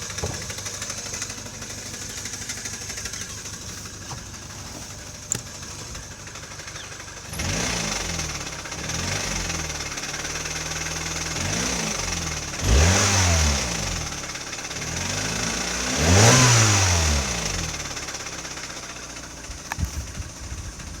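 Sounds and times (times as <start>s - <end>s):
car engine revving: 0.0s - 18.3s.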